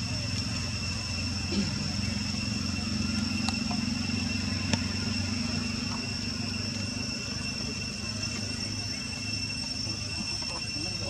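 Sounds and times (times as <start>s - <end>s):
high-pitched whines: 0.0s - 11.0s
low hum: 0.0s - 11.0s.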